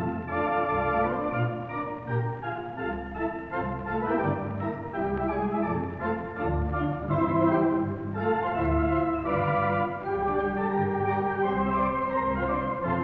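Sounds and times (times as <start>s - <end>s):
pipe organ playing chords: 0.0s - 13.0s.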